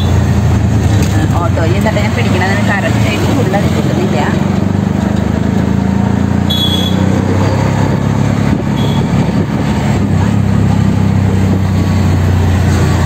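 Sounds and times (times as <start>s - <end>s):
auto-rickshaw engine running: 0.0s - 13.0s
road noise: 0.0s - 13.0s.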